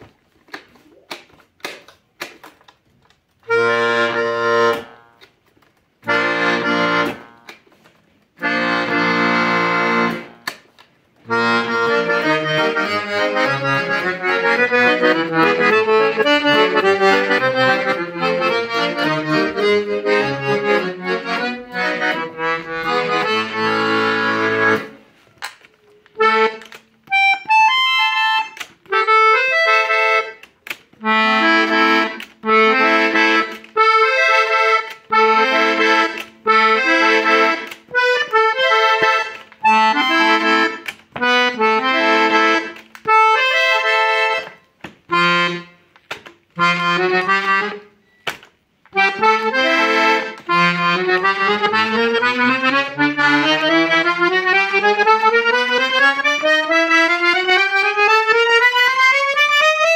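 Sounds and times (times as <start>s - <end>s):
accordion playing: 3.3s - 59.9s.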